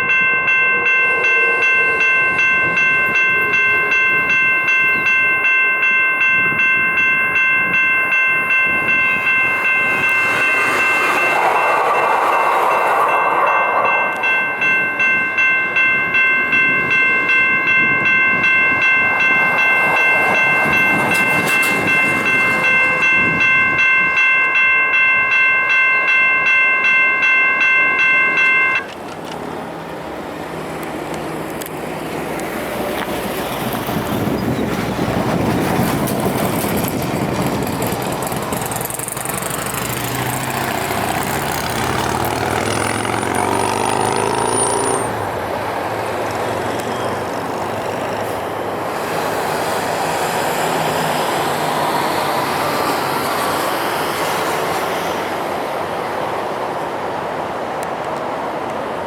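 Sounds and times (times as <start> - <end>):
railroad crossing bell ringing: 0.0 - 55.0
train running past: 0.0 - 59.0.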